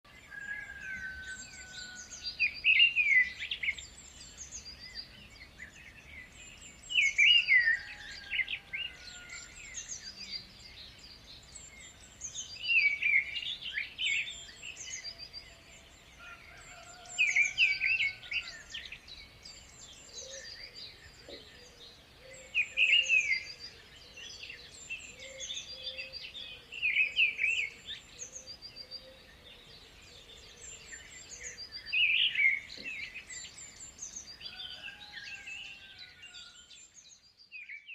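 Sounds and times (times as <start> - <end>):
songbird chirping phrase: 0.0 - 37.9.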